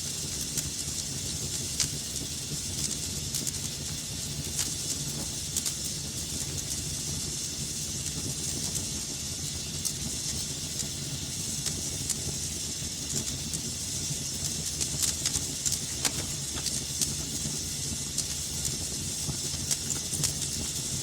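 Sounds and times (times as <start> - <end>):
fire burning in fireplace: 0.0 - 21.0.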